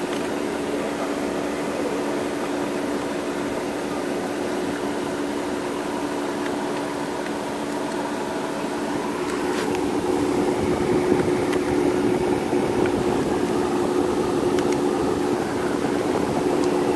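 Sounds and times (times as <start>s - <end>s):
car cabin mechanical hum: 0.0s - 16.9s
low steady tones: 0.4s - 16.9s.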